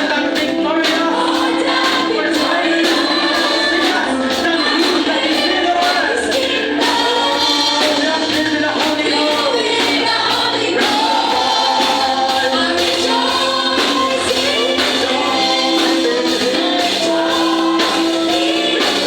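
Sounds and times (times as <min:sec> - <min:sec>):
band with steady beat: 0:00.0 - 0:19.0
group singing gospel song: 0:00.0 - 0:19.0.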